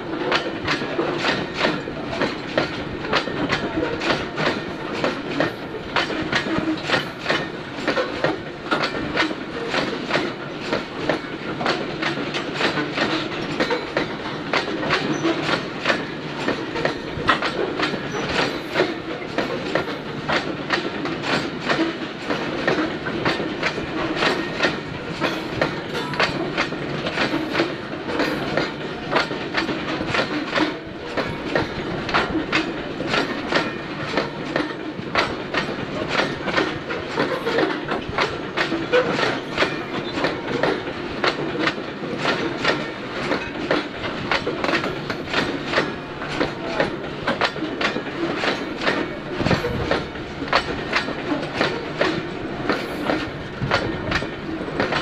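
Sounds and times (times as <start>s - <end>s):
freight train rumble: 0.0s - 55.0s
train wheels clicking over rail joints: 0.0s - 55.0s.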